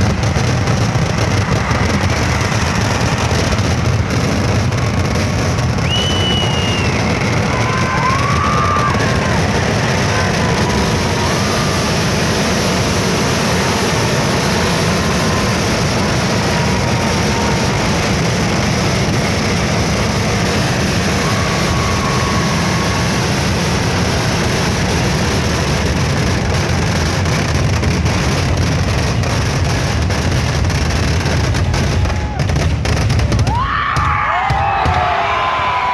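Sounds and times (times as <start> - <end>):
crowd cheering and whistling: 0.0 - 35.9
firecracker blasts: 0.0 - 35.9.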